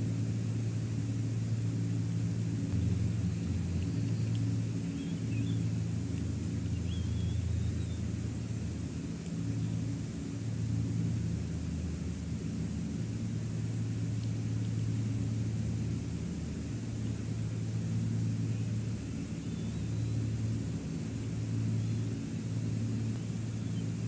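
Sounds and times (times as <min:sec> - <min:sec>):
constant hiss: 0:00.0 - 0:24.0
low hum of held tones: 0:00.0 - 0:24.0.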